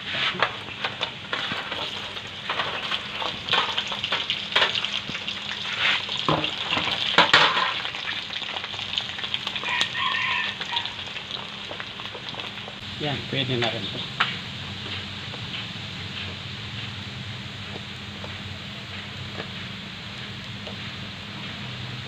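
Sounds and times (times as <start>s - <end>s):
fat deep-frying in oil: 0.0s - 22.0s.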